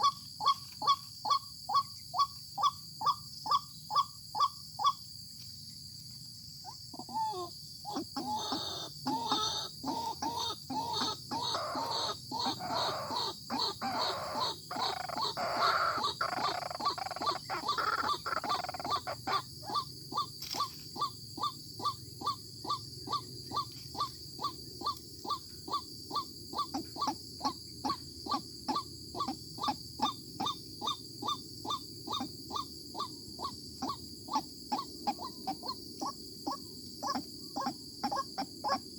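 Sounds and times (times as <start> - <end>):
waterhen croaking calls: 7.0 - 38.9.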